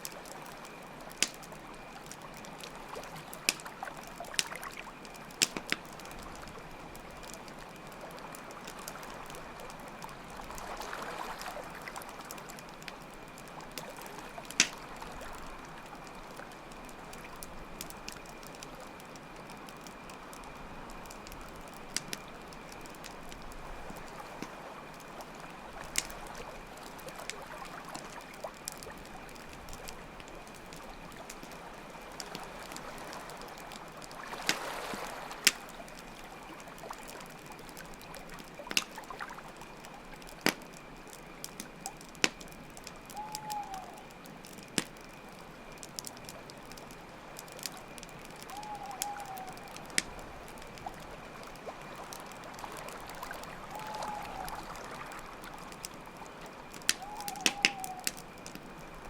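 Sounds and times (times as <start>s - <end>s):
campfire crackling: 0.0s - 59.0s
crickets chirring: 0.0s - 59.0s.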